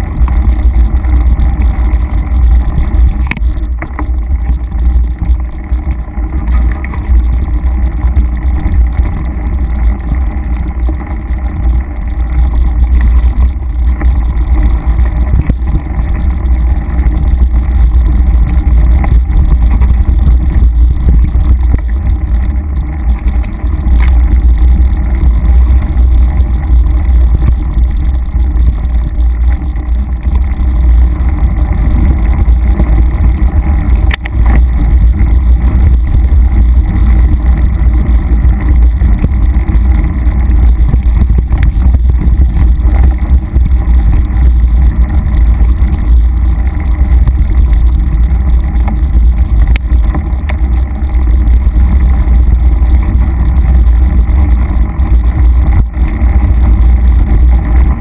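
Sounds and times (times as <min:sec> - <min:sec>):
wind buffeting and trail vibration: 0:00.0 - 0:58.0.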